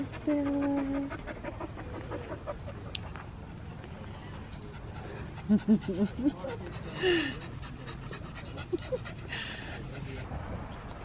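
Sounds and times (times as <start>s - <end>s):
dog vocal sounds: 0.0s - 10.3s
dog panting: 0.0s - 10.9s.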